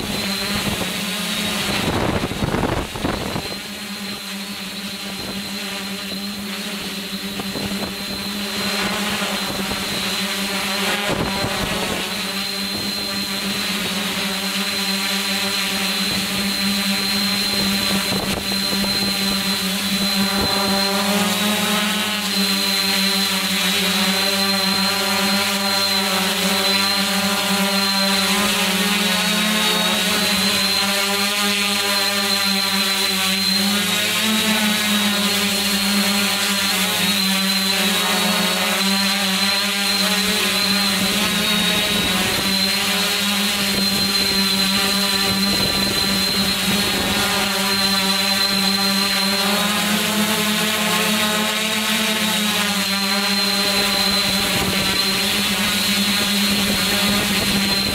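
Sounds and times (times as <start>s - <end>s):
drone motors humming: 0.0s - 57.9s.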